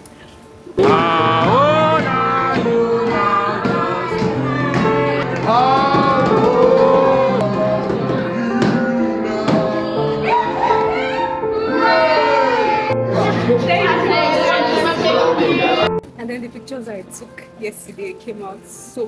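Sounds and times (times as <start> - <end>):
singing voices: 0.7 - 16.0
instrumental accompaniment: 0.8 - 19.0.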